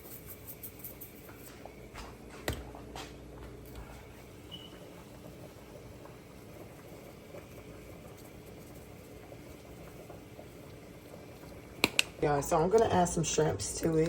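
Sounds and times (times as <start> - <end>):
food simmering and bubbling: 0.0 - 14.0.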